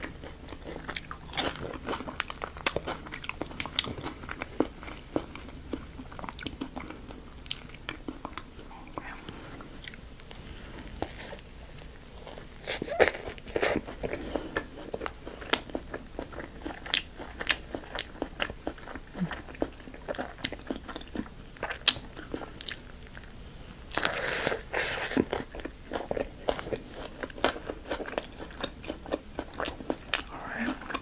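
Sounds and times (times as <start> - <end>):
crunching bites and chewing: 0.0 - 8.5, 9.8 - 31.0.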